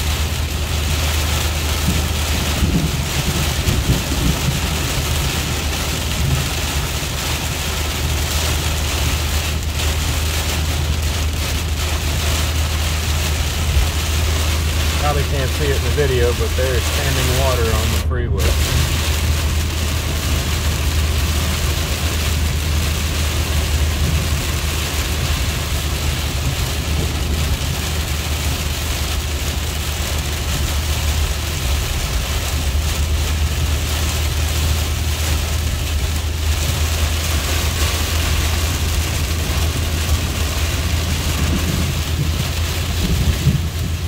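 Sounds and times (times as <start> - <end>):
car road and engine rumble: 0.0 - 44.0
heavy rain on windshield: 0.0 - 44.0
tyres hissing on wet road: 0.0 - 44.0.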